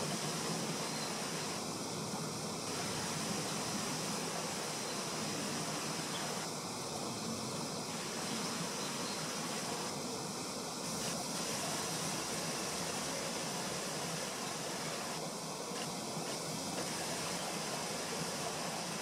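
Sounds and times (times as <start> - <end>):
high-pitched insect chorus: 0.0 - 19.0
outdoor background hiss: 0.0 - 19.0.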